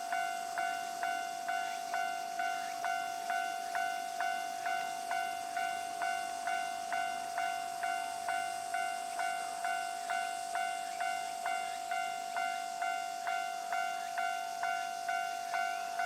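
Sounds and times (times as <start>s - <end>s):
level-crossing warning bell ringing: 0.0s - 16.0s.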